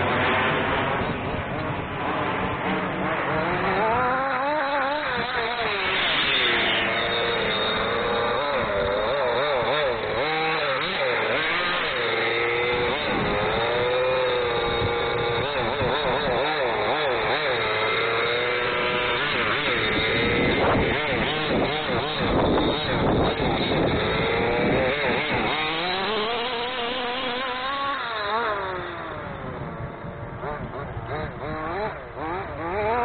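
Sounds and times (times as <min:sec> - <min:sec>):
two-stroke engine revving: 0:00.0 - 0:33.0.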